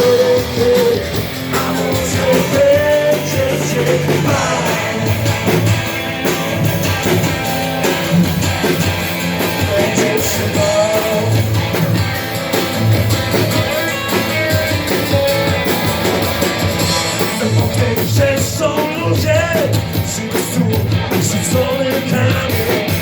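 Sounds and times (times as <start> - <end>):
drum kit: 0.0 - 23.0
guitars playing melody: 0.0 - 23.0.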